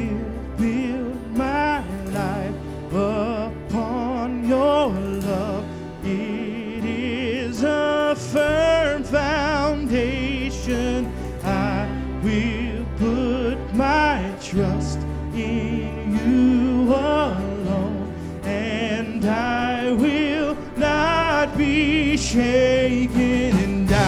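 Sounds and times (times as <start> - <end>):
acoustic guitar: 0.0 - 24.0
bass guitar: 0.0 - 24.0
drum kit: 0.0 - 24.0
man singing with vibrato: 0.0 - 24.0.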